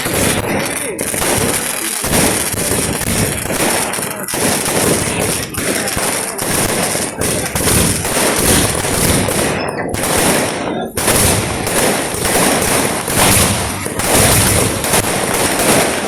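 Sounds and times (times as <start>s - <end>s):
fireworks exploding: 0.0s - 16.0s.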